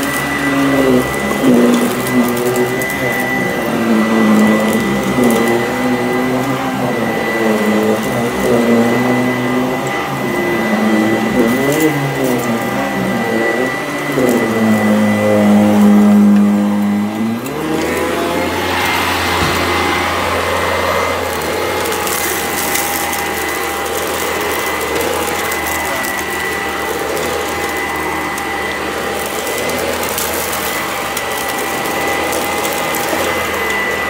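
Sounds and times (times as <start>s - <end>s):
vacuum cleaner running over carpet: 0.0s - 34.0s.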